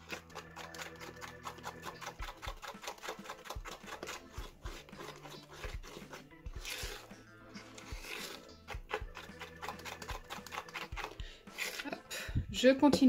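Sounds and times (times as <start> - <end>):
utensil stirring wet slime: 0.0 - 12.3.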